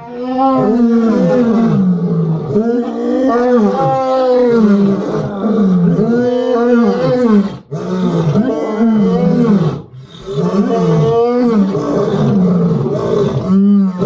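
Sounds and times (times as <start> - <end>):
lions roaring: 0.0 - 14.0.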